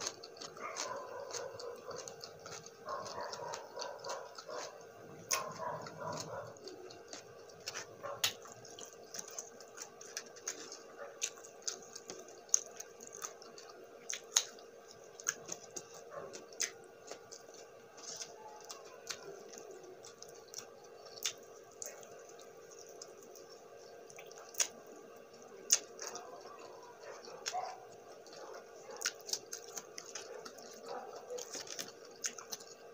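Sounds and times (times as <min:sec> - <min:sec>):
faint steady hum: 0:00.0 - 0:32.9
wet chewing mouth sounds: 0:00.0 - 0:32.9.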